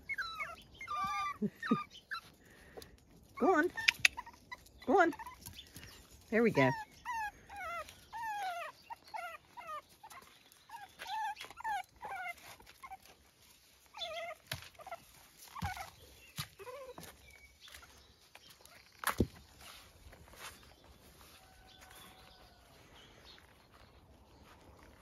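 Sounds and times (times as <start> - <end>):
puppies whimpering and yipping: 0.0 - 24.0.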